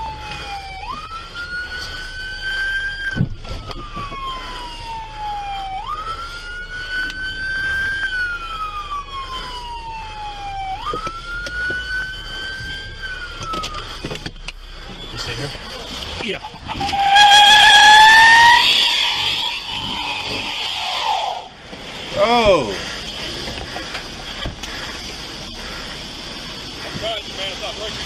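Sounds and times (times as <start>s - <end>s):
police siren wailing: 0.0s - 28.0s.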